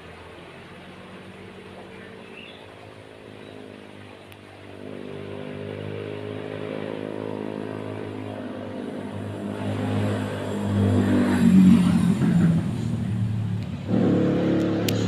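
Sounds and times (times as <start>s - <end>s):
motor engine droning: 0.0s - 15.0s.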